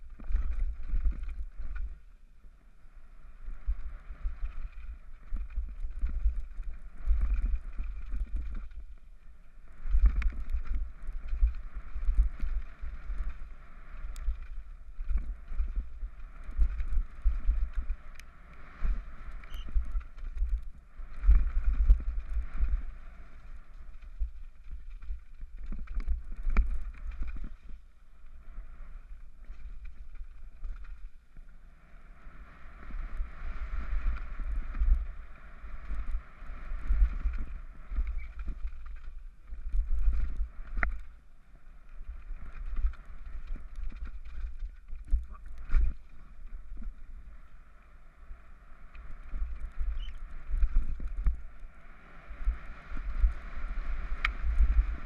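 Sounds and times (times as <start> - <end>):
wind buffeting camera: 0.0 - 55.0.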